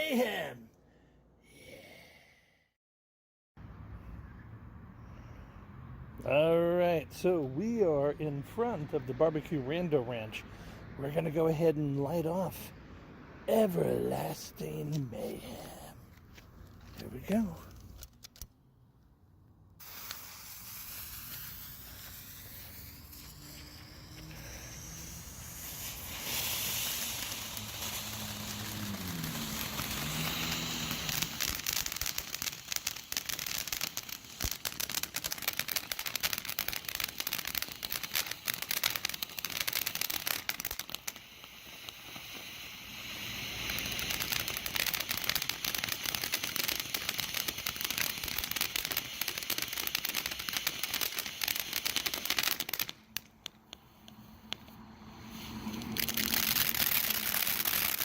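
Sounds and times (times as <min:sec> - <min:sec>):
firework fountain hissing and crackling: 0:00.0 - 0:00.6, 0:06.3 - 0:12.8, 0:13.4 - 0:18.5, 0:19.8 - 0:58.0.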